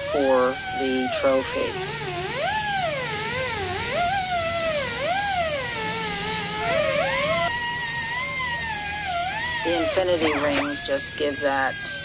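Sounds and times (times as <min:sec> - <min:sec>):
cut-off wheel whining: 0:00.0 - 0:12.0.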